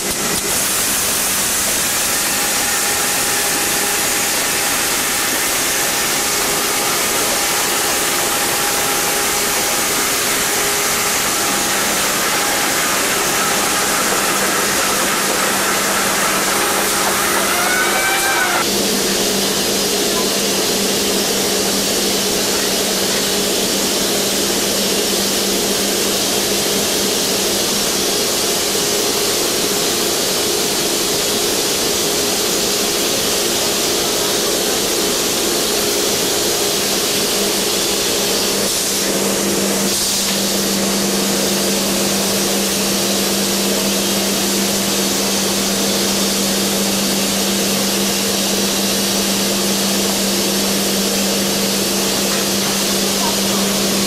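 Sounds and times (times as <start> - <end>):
mechanical hum: 0.0 - 54.0
machinery hiss: 0.1 - 54.0.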